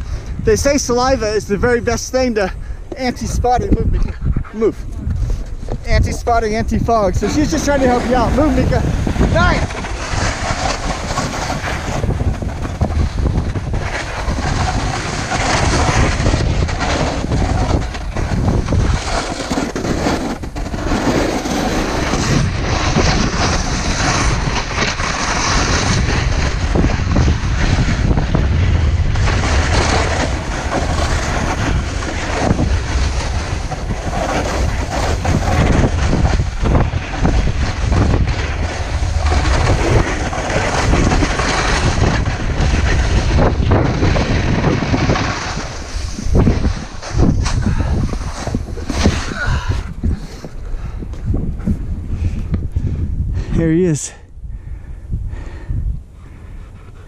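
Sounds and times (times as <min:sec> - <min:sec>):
snowboard scraping over snow: 0:00.0 - 0:54.2
wind buffeting microphone: 0:00.0 - 0:57.0.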